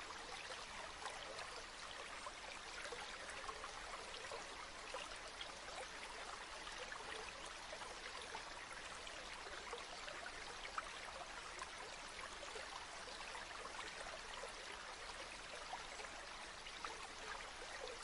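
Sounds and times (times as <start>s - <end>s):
river water babbling: 0.0s - 18.0s.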